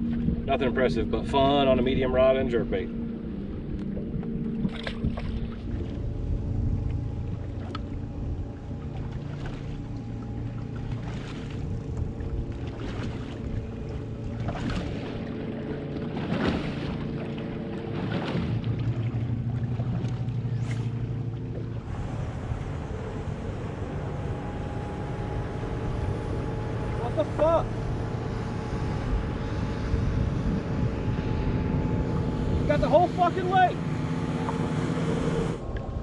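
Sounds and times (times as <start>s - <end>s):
motorboat engine running: 0.0s - 36.0s
water rushing and sloshing: 0.0s - 36.0s.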